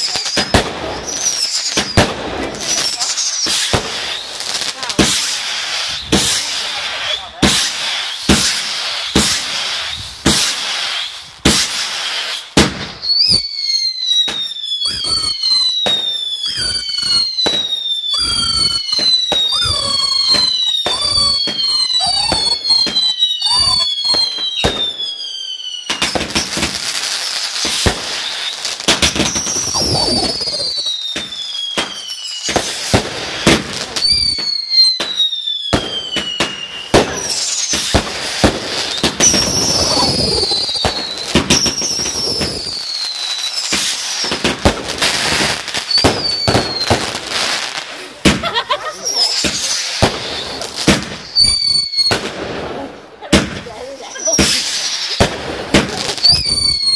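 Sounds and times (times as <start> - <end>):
firework bangs: 0.0 - 56.9
firework crackling: 0.0 - 56.9
whistling firework shots: 0.0 - 56.9.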